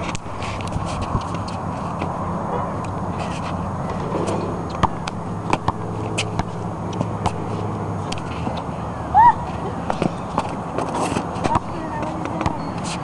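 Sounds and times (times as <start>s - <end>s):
noisy outdoor background: 0.0s - 13.0s
steady low hum: 0.0s - 13.0s.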